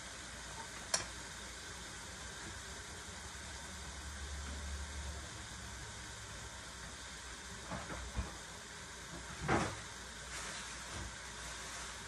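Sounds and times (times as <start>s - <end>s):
cabbage sizzling in a pot: 0.0s - 12.0s.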